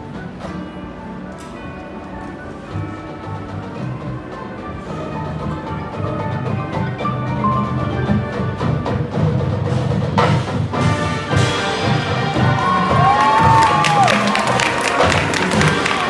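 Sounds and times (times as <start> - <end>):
marching band playing: 0.0 - 16.0
drums in a steady rhythm: 2.7 - 16.0.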